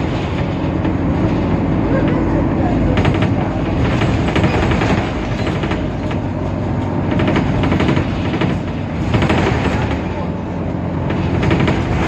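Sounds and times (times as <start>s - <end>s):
diesel bus engine rumbling: 0.0s - 12.0s
rattling clatter: 0.0s - 12.0s.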